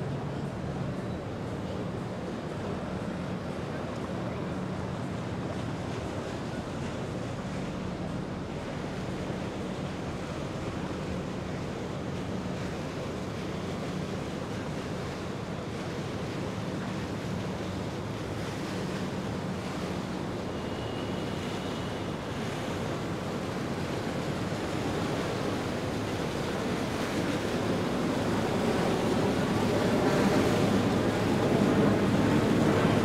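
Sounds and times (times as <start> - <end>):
boat engine hum: 0.0 - 33.0
water noise: 0.0 - 33.0
wind: 0.0 - 33.0.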